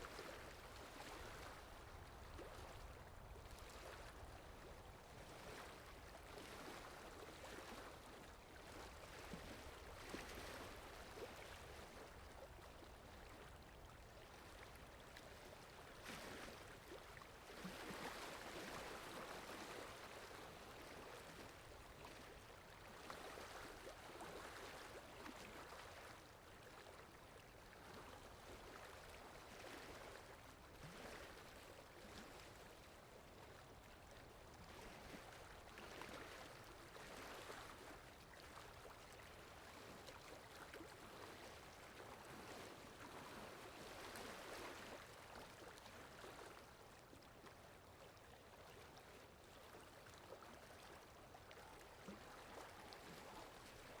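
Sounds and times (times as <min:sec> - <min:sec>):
faint flowing water: 0:00.0 - 0:54.0.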